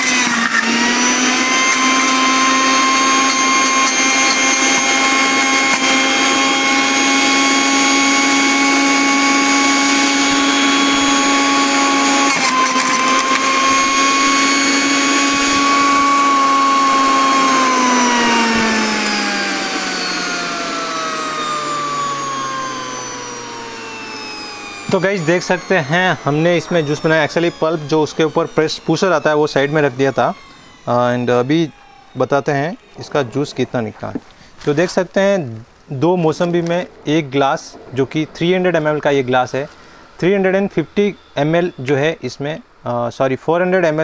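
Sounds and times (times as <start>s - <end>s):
juicer motor whining: 0.0s - 42.0s.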